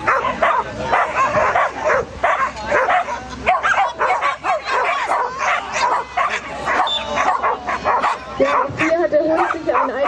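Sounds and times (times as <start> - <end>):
dog barking in high yips: 0.0 - 10.0.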